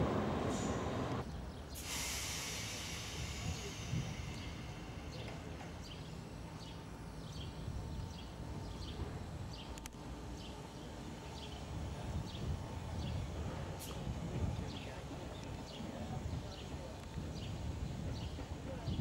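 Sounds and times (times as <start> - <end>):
low steady train rumble: 0.0 - 19.0.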